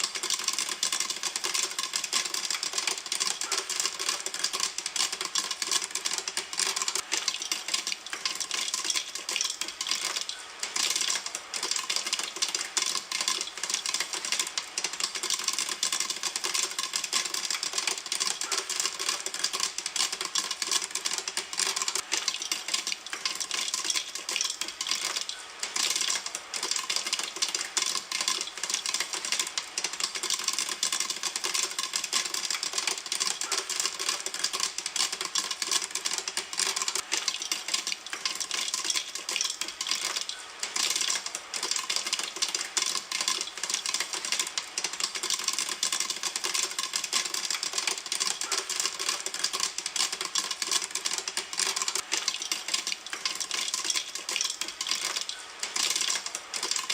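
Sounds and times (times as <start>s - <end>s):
popcorn popping: 0.0s - 56.9s.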